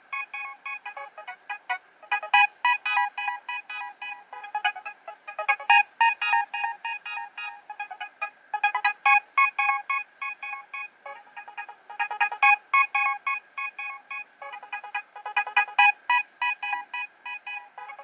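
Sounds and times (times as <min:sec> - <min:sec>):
mobile phone ringtone melody: 0:02.1 - 0:18.0.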